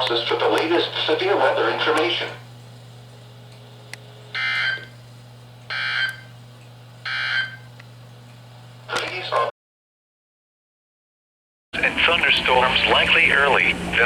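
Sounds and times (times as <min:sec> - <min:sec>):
steady low hum: 0:00.0 - 0:09.5, 0:11.8 - 0:14.0.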